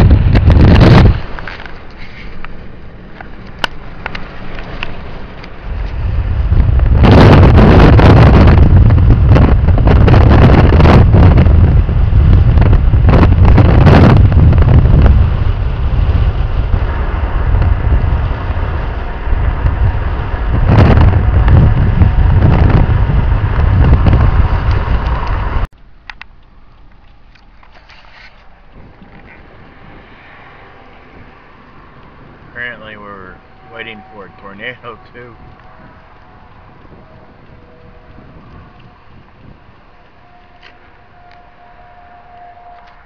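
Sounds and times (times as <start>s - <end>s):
wind buffeting microphone: 0.0s - 27.8s, 28.4s - 43.0s
car road rumble: 0.0s - 43.0s.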